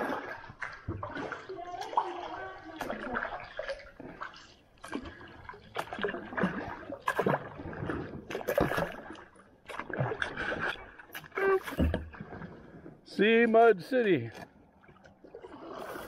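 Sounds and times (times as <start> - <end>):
paddle splashing in water: 0.0 - 16.0
water dripping off paddle: 0.0 - 16.0.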